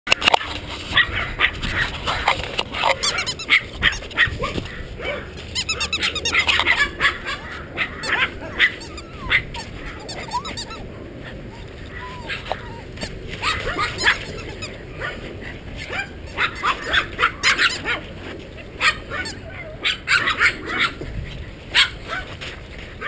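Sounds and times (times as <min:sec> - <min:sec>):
puppies yipping and whining: 0:00.4 - 0:22.4
puppies whimpering: 0:01.0 - 0:18.0, 0:18.6 - 0:21.0.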